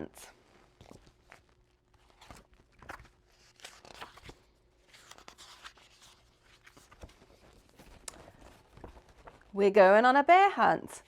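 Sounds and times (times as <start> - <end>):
book pages turning: 0.5 - 9.6.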